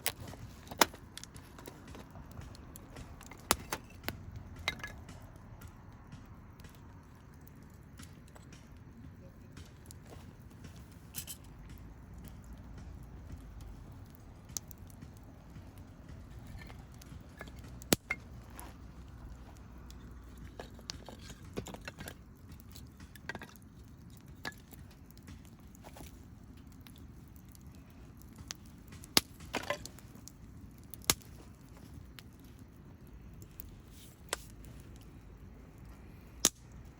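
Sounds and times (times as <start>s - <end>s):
campfire crackling and popping: 0.0s - 36.9s.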